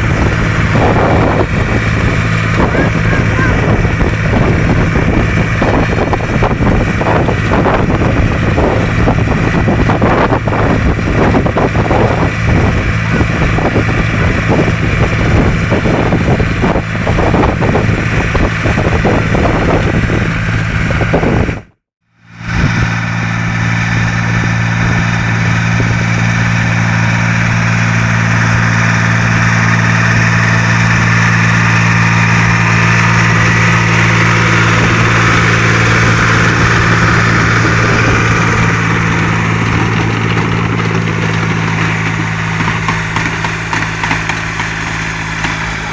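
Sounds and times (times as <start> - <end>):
wind buffeting microphone: 0.0 - 21.7, 22.5 - 23.0, 23.7 - 45.8
tractor engine running: 0.0 - 45.9.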